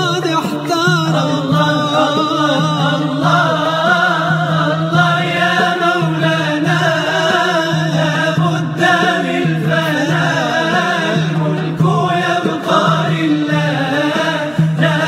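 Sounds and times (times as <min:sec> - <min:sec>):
voices chanting devotional song: 0:00.0 - 0:15.0.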